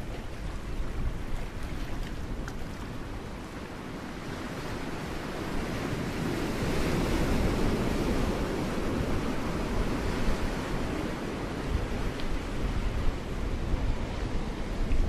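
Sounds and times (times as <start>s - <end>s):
ocean waves washing against rocks: 0.0s - 15.0s
wind on microphone: 0.0s - 15.0s.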